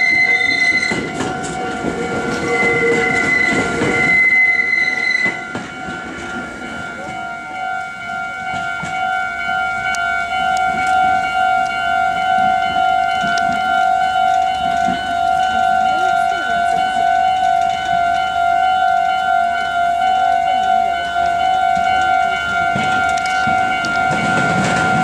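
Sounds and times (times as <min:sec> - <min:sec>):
crossing warning bell ringing: 0:00.0 - 0:25.0
train wheels clattering: 0:00.0 - 0:25.0.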